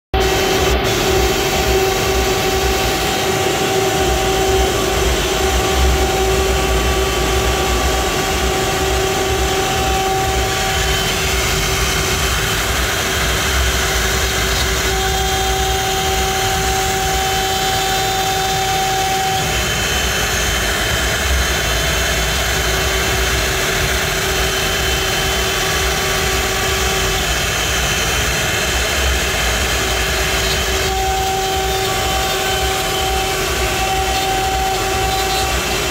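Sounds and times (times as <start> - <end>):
dust extraction suction: 0.2 - 35.9
router milling wood: 0.2 - 35.9.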